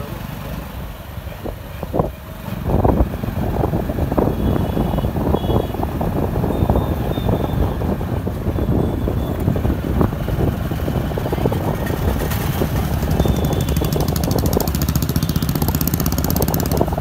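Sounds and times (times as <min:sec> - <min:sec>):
road and engine rumble: 0:00.0 - 0:17.0
wind buffeting microphone: 0:01.3 - 0:17.0.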